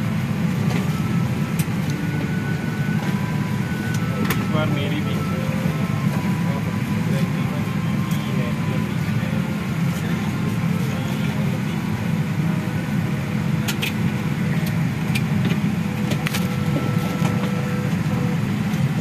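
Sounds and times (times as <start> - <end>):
airliner engine rumble: 0.0 - 19.0.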